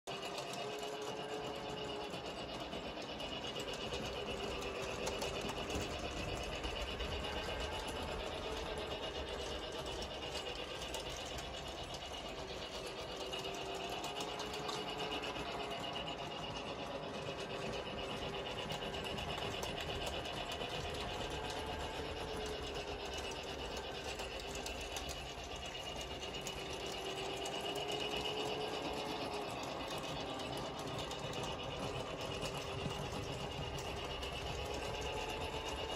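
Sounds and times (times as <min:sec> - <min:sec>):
toy train motor whirring: 0:00.1 - 0:35.9.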